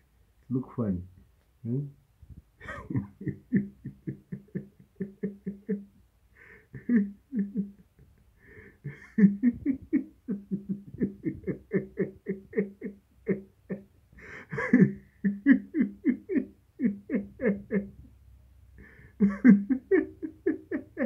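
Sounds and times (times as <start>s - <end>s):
person laughing: 2.6s - 18.1s, 18.8s - 21.0s.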